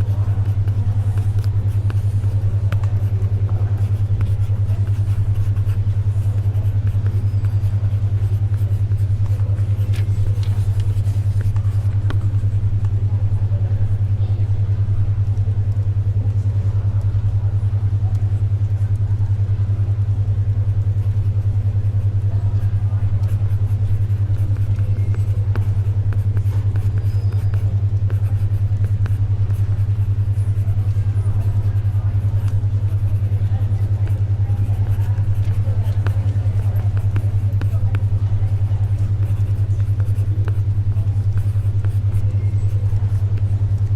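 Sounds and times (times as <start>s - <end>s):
pencil writing: 0.0s - 12.8s, 21.0s - 43.8s
library ambience: 0.0s - 43.9s
low-pitched pulsing hum: 0.0s - 43.9s.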